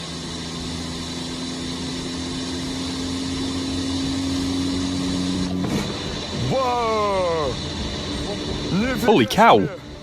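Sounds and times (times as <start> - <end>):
car engine at high revs: 0.0 - 10.0
tire spinning at high speed: 0.0 - 10.0.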